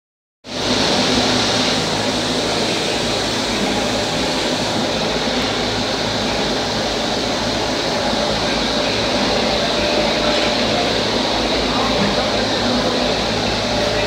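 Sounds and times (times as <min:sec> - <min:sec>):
low electric drone: 0:00.5 - 0:14.0
production line machinery whirring: 0:00.5 - 0:14.0.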